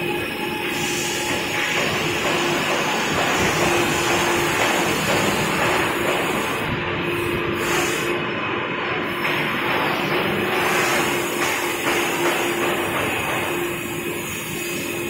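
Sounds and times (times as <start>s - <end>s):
boring machine running: 0.0s - 15.0s.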